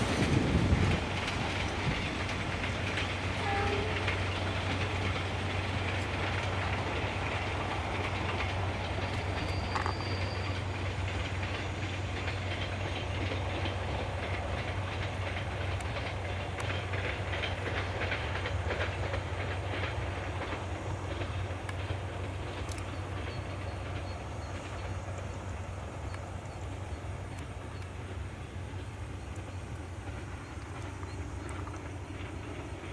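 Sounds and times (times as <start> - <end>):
train rumbling past: 0.0 - 32.9
wheels clacking over rail joints: 0.0 - 32.9.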